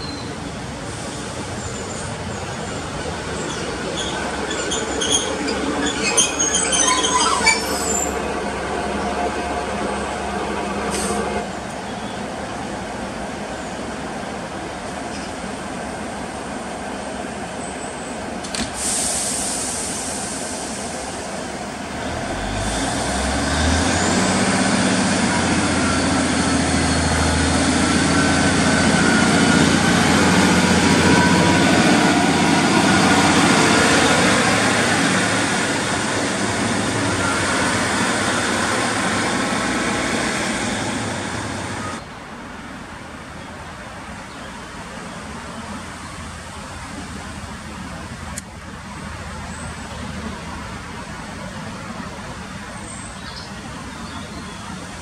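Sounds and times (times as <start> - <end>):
diesel railcar engine: 0.0 - 55.0.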